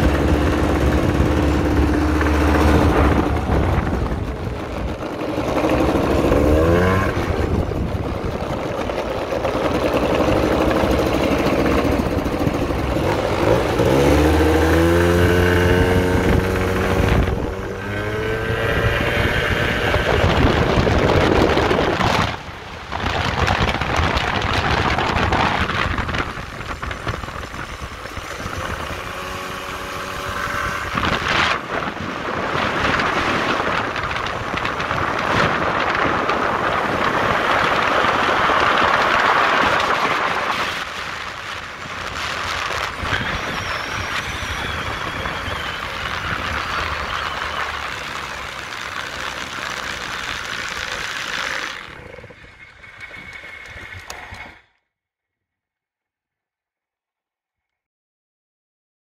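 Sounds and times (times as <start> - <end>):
scooter engine running: 0.0 - 54.6
wind noise on microphone: 0.0 - 54.8.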